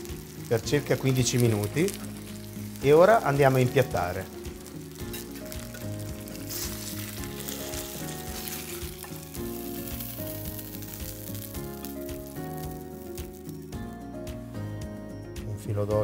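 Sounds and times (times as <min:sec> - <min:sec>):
meat sizzling and crackling: 0:00.0 - 0:14.5
background music with held notes: 0:00.0 - 0:16.0.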